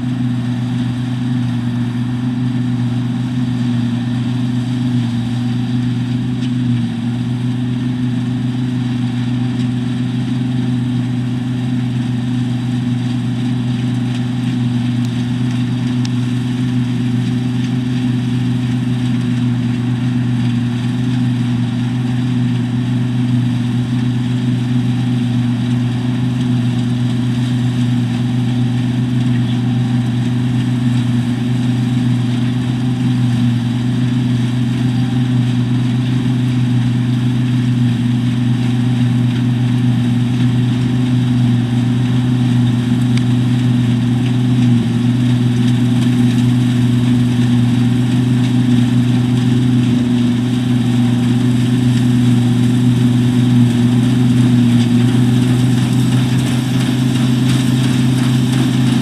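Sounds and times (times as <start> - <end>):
combine harvester engine droning: 0.0 - 59.0.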